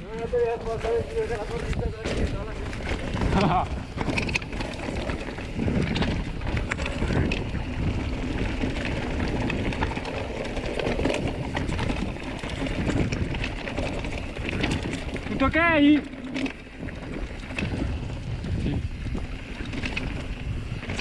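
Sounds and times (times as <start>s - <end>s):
bike tyre rumble on rocky trail: 0.0s - 21.0s
clicks and rattles of bike and stones: 0.0s - 21.0s
wind on microphone: 0.0s - 21.0s.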